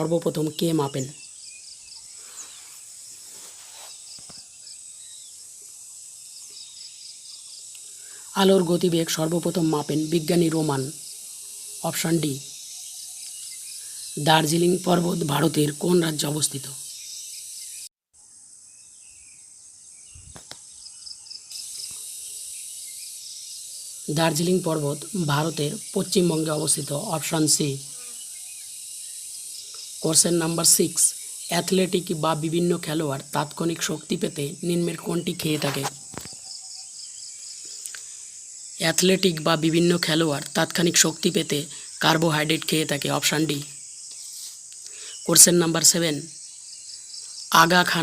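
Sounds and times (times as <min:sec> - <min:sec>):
steady high hiss: 0:00.0 - 0:17.9, 0:20.3 - 0:48.0
crickets trilling: 0:00.0 - 0:48.0
insects chirping: 0:00.0 - 0:48.0.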